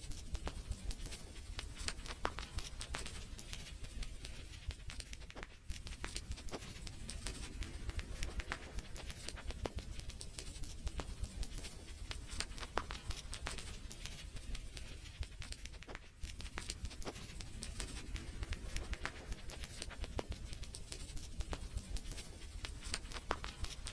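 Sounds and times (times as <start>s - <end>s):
fire crackling and popping: 0.0s - 23.9s.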